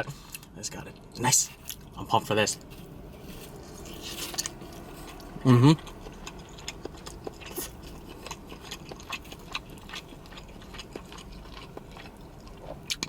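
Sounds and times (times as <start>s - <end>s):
person chewing with wet smacks: 0.0s - 13.0s.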